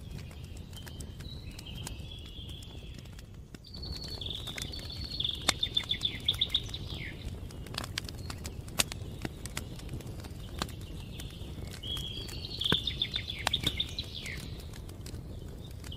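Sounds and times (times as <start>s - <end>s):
birds singing: 0.0s - 15.9s
campfire crackling and popping: 0.0s - 15.9s.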